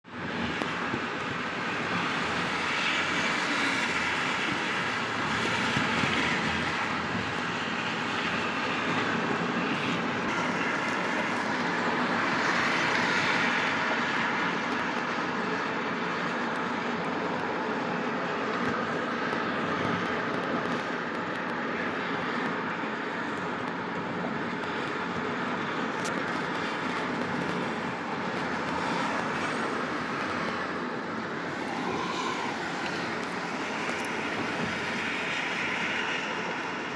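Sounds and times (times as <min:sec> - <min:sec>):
car tyre and wind noise: 0:00.0 - 0:36.9.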